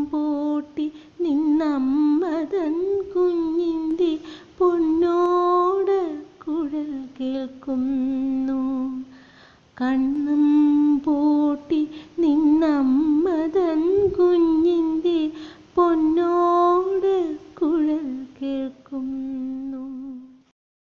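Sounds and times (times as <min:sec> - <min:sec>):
woman singing unaccompanied: 0:00.0 - 0:20.5.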